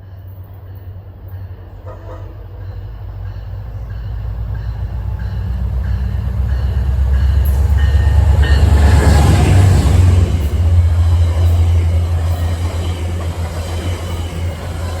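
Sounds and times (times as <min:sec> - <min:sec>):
train engine rumble: 0:00.0 - 0:15.0
train wheel noise: 0:00.0 - 0:15.0.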